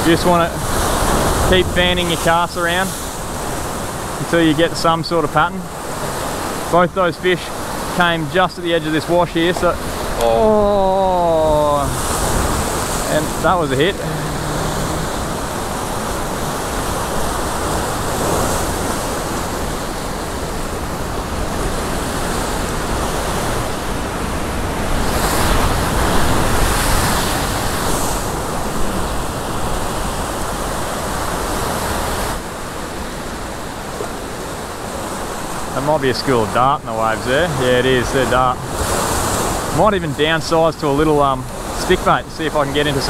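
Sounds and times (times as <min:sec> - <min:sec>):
ocean surf breaking on rocks: 0:00.0 - 0:43.0.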